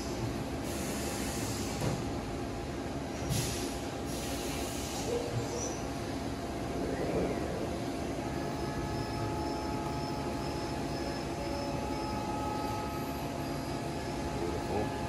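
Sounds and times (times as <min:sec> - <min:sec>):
workshop hiss and hum: 0:00.0 - 0:15.0.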